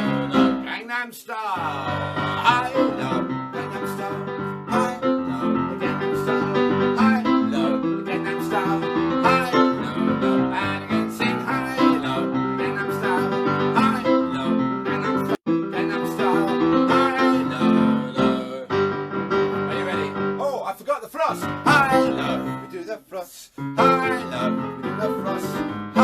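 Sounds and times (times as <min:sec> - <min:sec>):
electric keyboard dance tune: 0:00.0 - 0:00.8, 0:01.6 - 0:23.0, 0:23.6 - 0:26.0.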